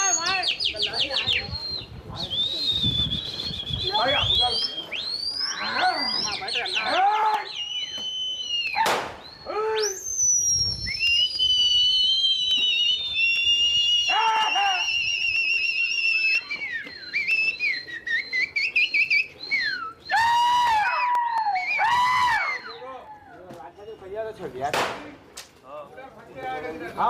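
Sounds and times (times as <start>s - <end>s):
loud human whistling: 0.0s - 23.0s
lower pitched calls: 0.0s - 24.2s.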